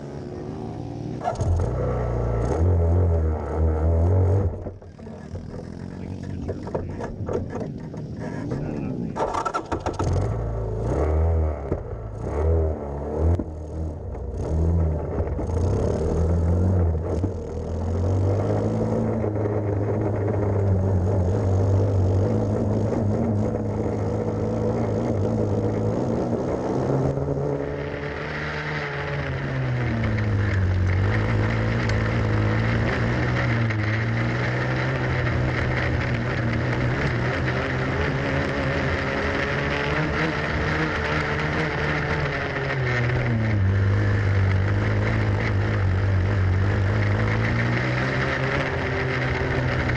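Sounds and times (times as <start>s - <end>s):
kart engine revving: 0.0s - 49.9s.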